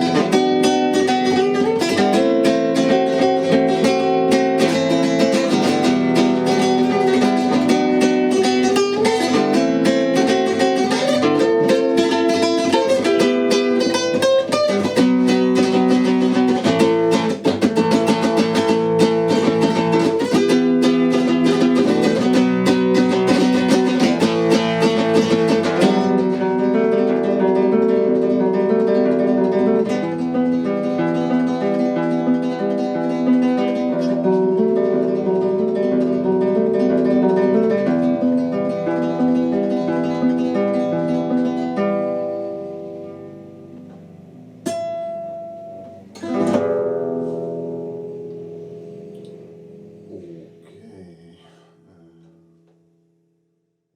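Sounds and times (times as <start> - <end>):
acoustic guitar plucked and strummed: 0.0 - 53.9.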